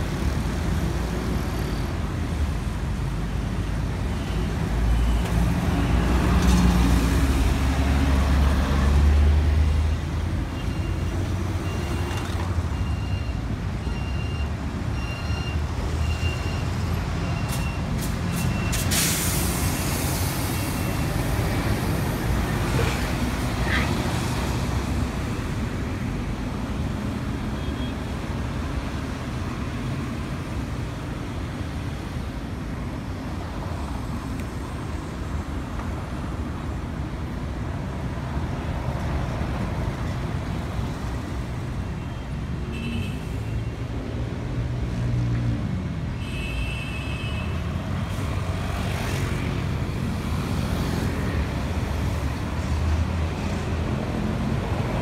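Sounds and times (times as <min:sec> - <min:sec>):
cars and buses passing: 0:00.0 - 0:55.0.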